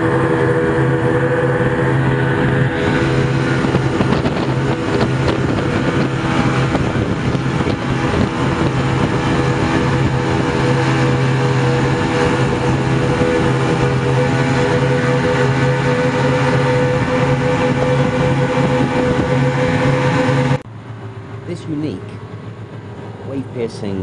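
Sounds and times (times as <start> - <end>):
wind noise on microphone: 0.0 - 20.6
motorboat engine droning: 0.0 - 24.0.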